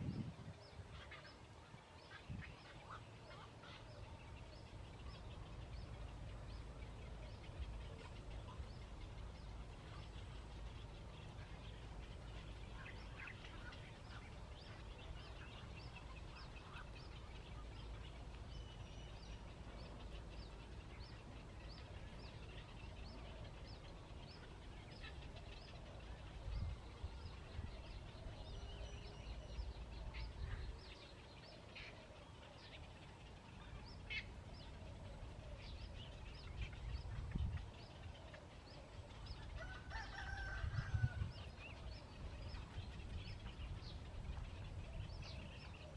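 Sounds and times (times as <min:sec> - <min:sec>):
bird chirping: 0:00.0 - 0:45.9
low wind-like rumble: 0:00.0 - 0:45.9.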